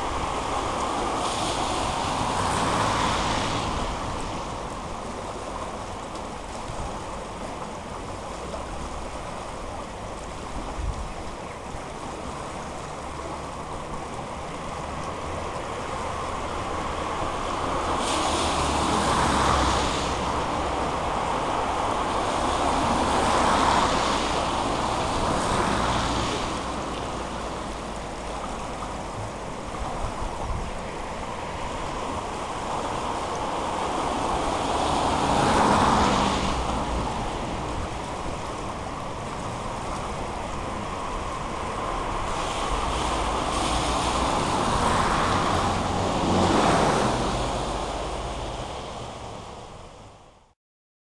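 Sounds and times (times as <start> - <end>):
wind rumble on microphone: 0.0 - 50.2
river water rushing: 0.0 - 50.6.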